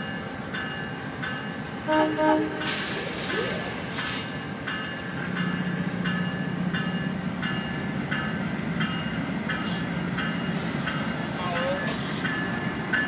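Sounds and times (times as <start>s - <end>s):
diesel train engine hum: 0.0s - 13.0s
train bell ringing: 0.0s - 13.0s.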